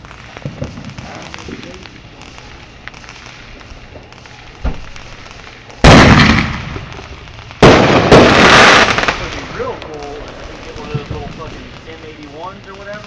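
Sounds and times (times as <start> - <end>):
firework blast: 0.0 - 13.0.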